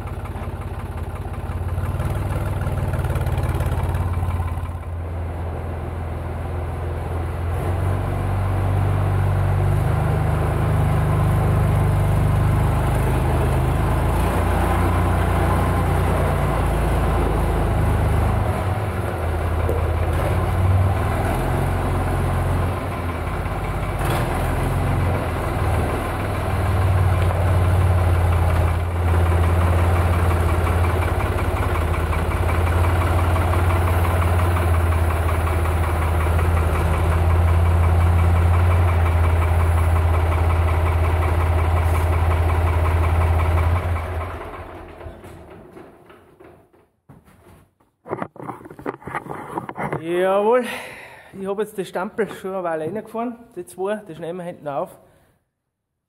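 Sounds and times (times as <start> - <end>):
tractor diesel engine drone: 0.0 - 46.6.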